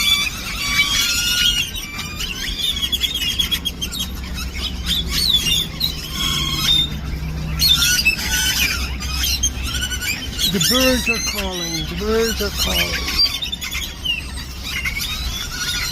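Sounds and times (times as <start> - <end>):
flock of birds chirping: 0.0 - 15.9.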